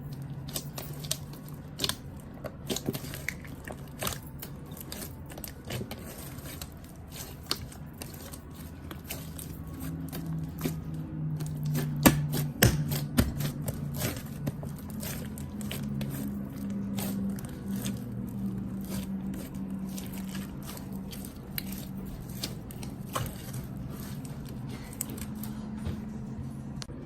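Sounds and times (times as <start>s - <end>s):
slime squishing and popping: 0.0s - 25.6s.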